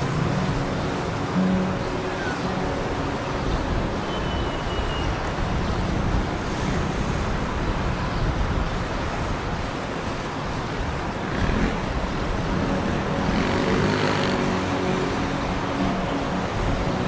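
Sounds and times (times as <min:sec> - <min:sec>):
jet engines rushing and whining: 0:00.0 - 0:17.0.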